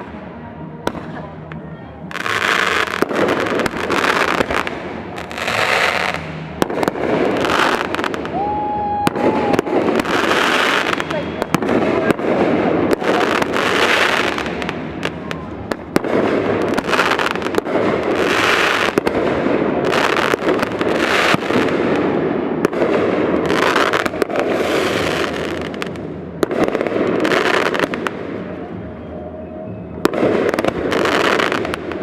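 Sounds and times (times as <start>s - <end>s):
fireworks crackling: 0.0s - 29.0s, 30.0s - 32.0s
fireworks bangs: 2.0s - 29.0s, 29.9s - 32.0s.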